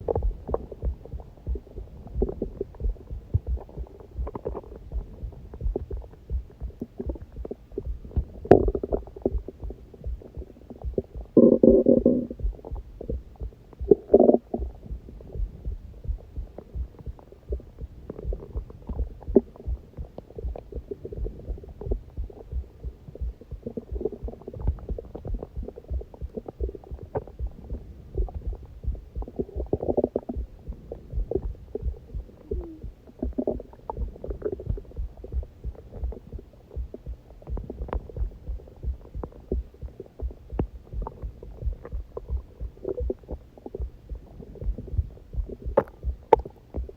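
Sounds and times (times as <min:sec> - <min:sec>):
heartbeat thumps: 0:00.0 - 0:46.9
stomach growling and gurgling: 0:00.0 - 0:46.9.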